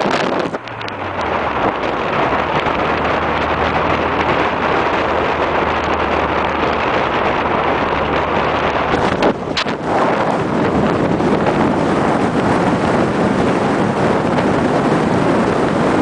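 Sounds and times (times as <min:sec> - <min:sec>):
car engine drone: 0:00.0 - 0:16.0
wind and road rush: 0:00.0 - 0:16.0.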